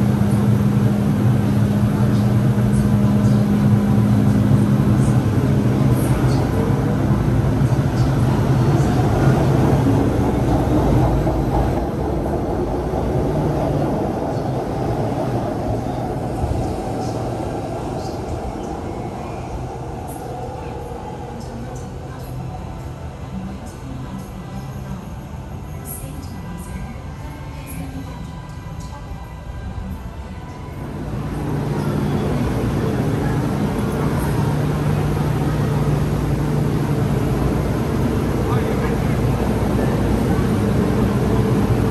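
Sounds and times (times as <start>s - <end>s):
train running from inside: 0.0s - 41.9s.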